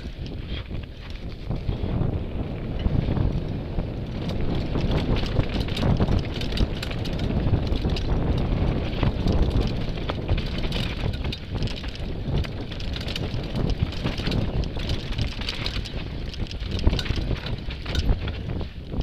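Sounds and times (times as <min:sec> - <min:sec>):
bike clicking and rattling: 0:00.0 - 0:19.0
bike tyres rumbling on dirt: 0:00.0 - 0:19.0
wind buffeting microphone: 0:00.0 - 0:19.0.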